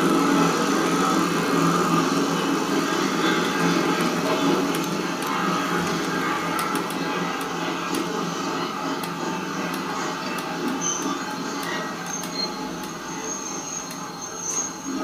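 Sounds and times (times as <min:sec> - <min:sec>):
wheels clicking on rails: 0:00.0 - 0:15.0.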